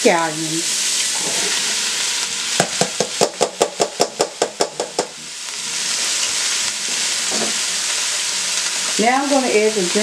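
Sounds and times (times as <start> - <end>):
vegetables sizzling in a pot: 0.0 - 10.0.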